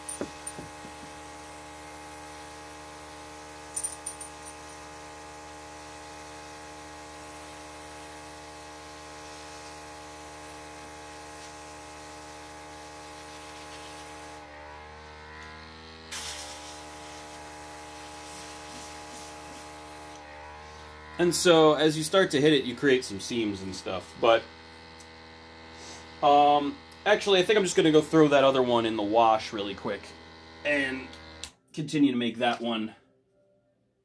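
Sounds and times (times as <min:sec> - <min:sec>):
airbrush compressor humming: 0:00.0 - 0:31.6.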